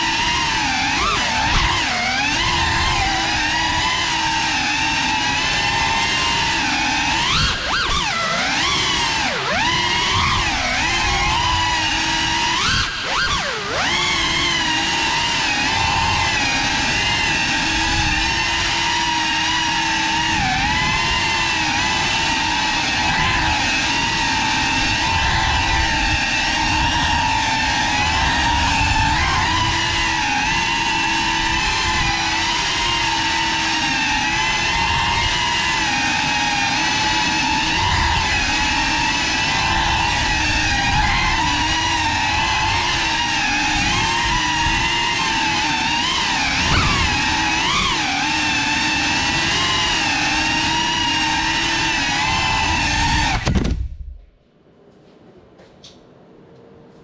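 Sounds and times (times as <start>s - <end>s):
drone motors whining: 0.0s - 54.4s.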